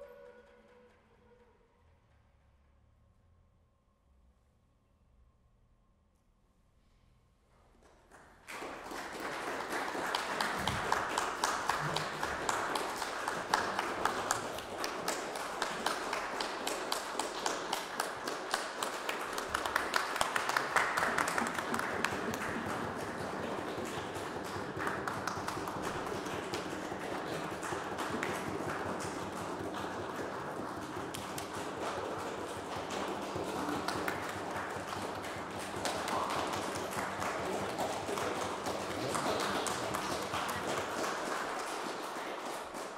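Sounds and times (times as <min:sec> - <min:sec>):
audience applauding: 0:07.8 - 0:42.9.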